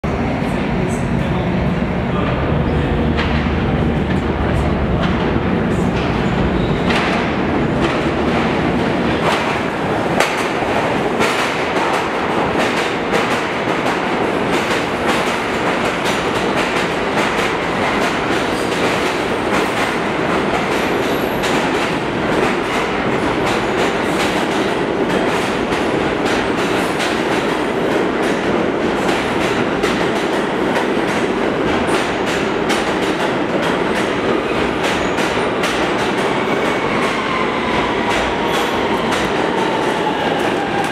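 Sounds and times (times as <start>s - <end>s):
subway train rumbling: 0.0s - 40.9s.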